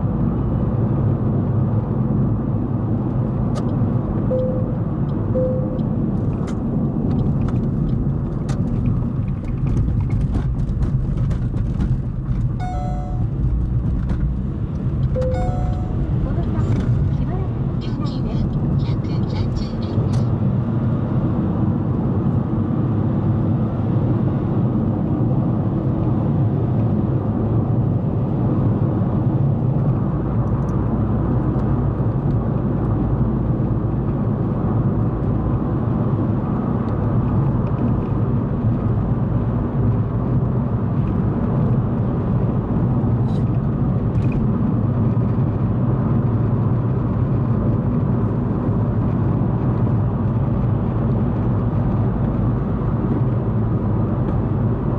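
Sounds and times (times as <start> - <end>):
car engine and tyre hum: 0.0 - 54.9.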